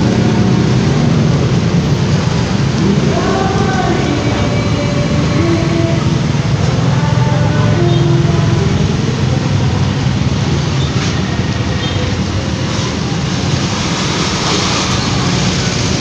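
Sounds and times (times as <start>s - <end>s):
vehicles idling and passing: 0.0s - 16.0s.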